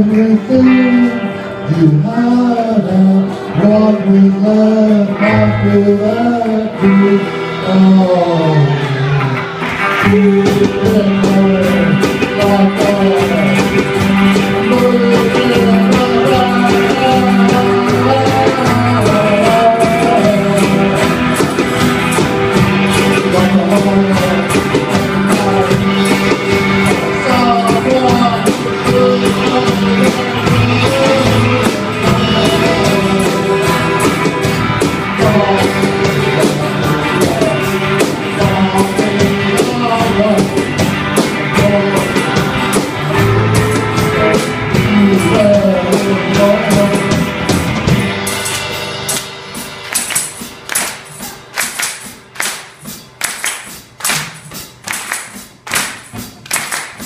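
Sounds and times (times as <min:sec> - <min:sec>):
live band playing pop-rock: 0:00.0 - 0:57.0
steady percussive beat: 0:09.4 - 0:57.0.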